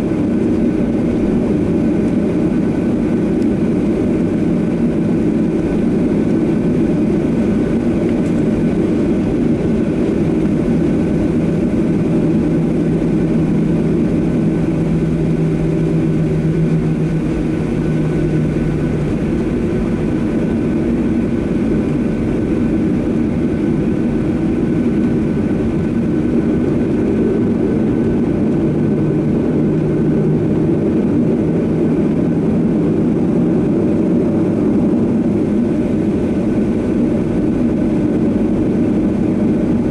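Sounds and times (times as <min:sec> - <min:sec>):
jet engine cabin drone: 0:00.0 - 0:39.9
low hum: 0:00.0 - 0:39.9.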